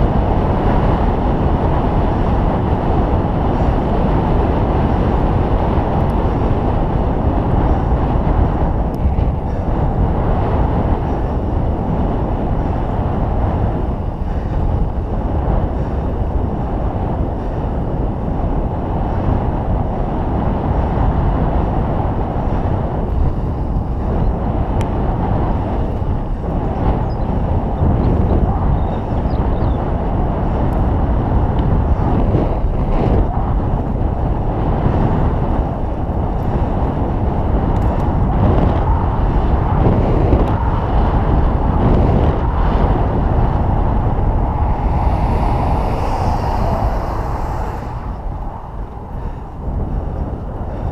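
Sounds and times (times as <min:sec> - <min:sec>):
bike tyres rolling on tarmac: 0:00.0 - 0:29.2, 0:29.8 - 0:50.9
wind noise on microphone: 0:00.0 - 0:50.9.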